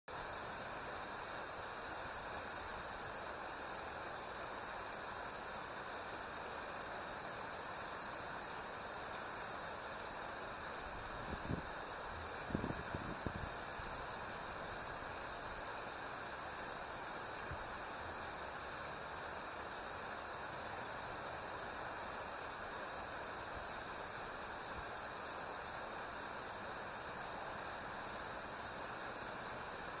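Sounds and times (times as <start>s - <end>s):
outdoor hiss: 0.1s - 30.0s.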